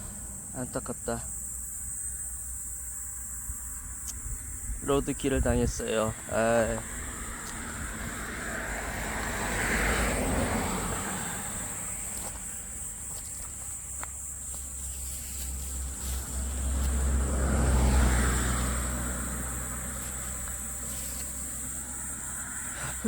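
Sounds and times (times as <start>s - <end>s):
road vehicles passing by: 0.0s - 23.0s.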